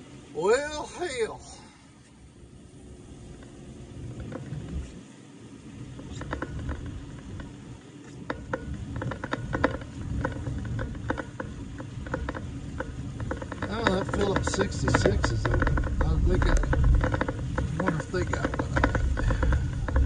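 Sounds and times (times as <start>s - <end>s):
low road rumble of tyres: 0.0s - 20.0s.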